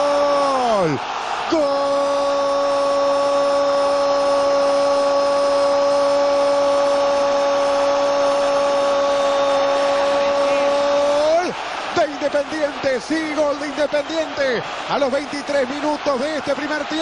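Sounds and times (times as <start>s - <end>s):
commentator shouting goal: 0.0s - 17.0s
stadium crowd noise: 0.0s - 17.0s.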